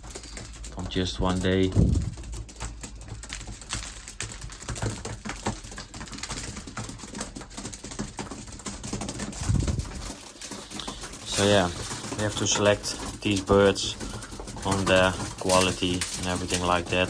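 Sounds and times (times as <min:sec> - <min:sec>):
pigeons pecking grain: 0:00.0 - 0:17.0.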